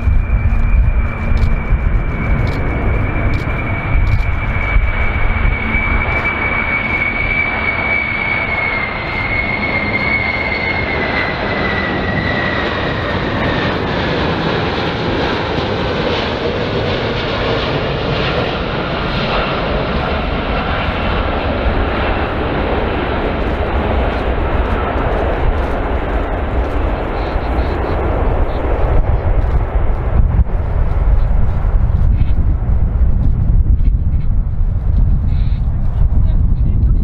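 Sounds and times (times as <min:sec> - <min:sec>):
jet engine roar with whine: 0:00.0 - 0:37.0.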